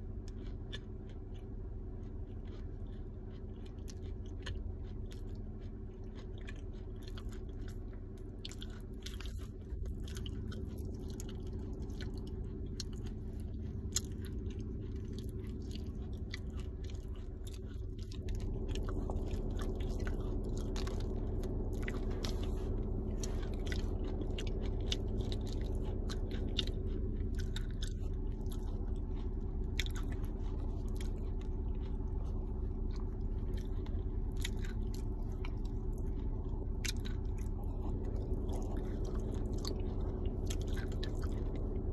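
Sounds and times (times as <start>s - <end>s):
crunchy chewing: 0.0s - 41.9s
steady low hum: 0.0s - 41.9s.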